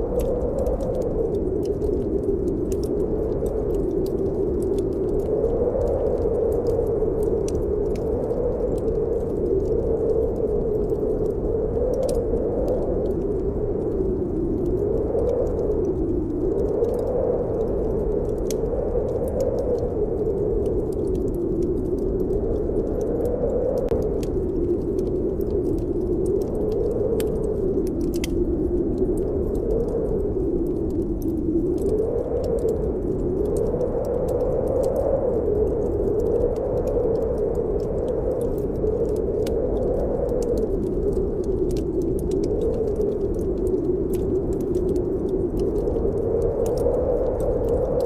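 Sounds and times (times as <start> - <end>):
wind howling: 0.0 - 48.0
wood fire crackling: 0.0 - 48.0.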